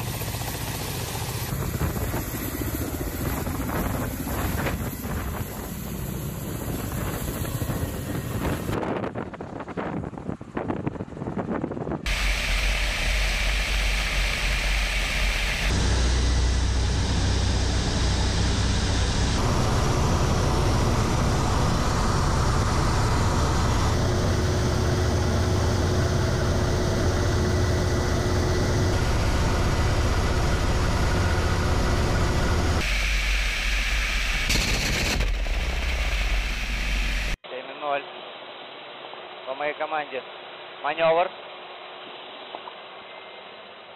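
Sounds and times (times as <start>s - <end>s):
helicopter rotors and engines: 0.0s - 37.4s.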